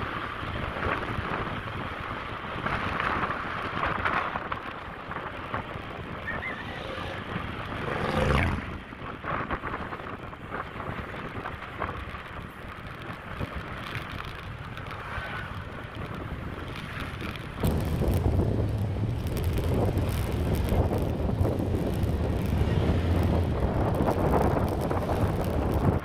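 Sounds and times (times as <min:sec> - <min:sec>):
road noise: 0:00.0 - 0:26.0
wind rushing over microphone: 0:00.0 - 0:26.0.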